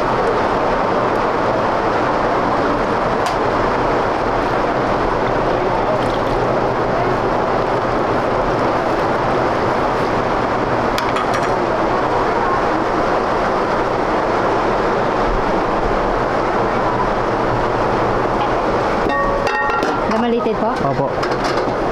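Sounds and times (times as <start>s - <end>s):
loud rushing kitchen noise: 0.0s - 21.9s.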